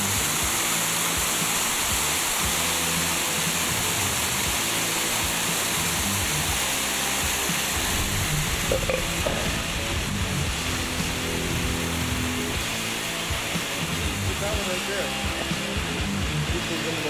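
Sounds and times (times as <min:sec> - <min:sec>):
water rushing over rocks: 0:00.0 - 0:15.2.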